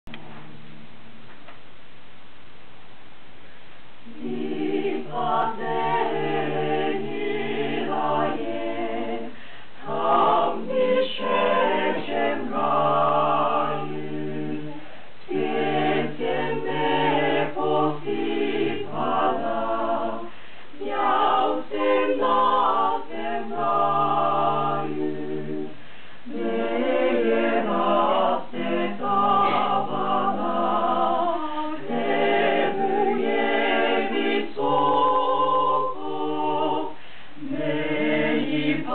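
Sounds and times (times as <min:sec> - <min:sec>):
mixed choir singing a cappella: 0:04.0 - 0:38.9.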